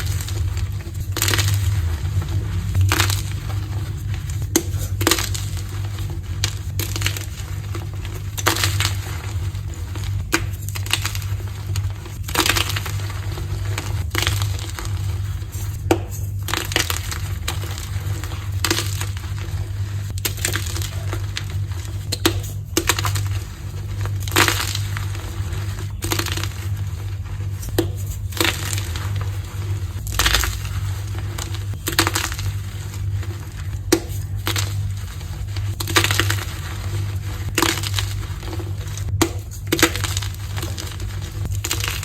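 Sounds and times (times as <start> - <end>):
chalk blocks crunching: 0.0 - 42.0
constant low hum: 0.0 - 42.0.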